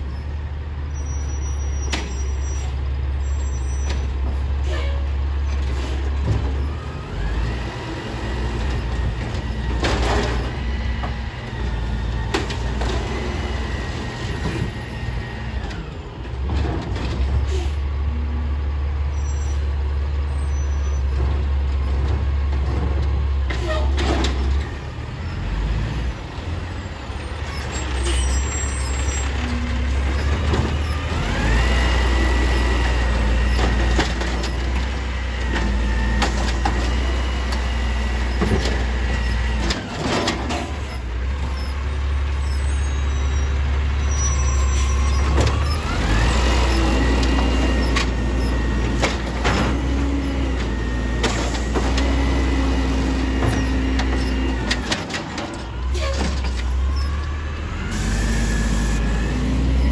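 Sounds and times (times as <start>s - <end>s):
garbage truck diesel engine: 0.0s - 59.9s.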